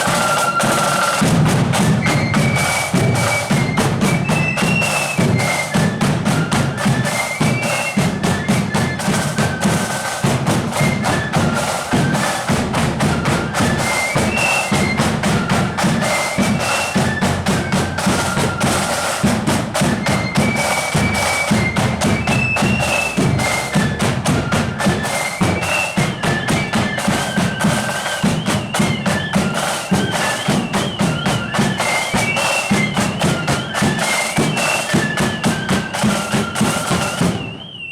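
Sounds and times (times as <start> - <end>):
snare drums rattling: 0.0 - 37.8
marching band shrill melody: 0.0 - 37.9.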